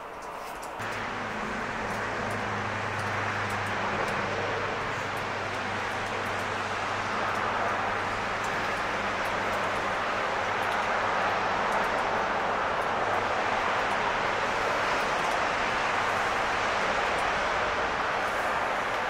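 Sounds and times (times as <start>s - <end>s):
distant vehicle hum: 0.0s - 19.0s
rain and wet snow hissing: 0.0s - 19.0s.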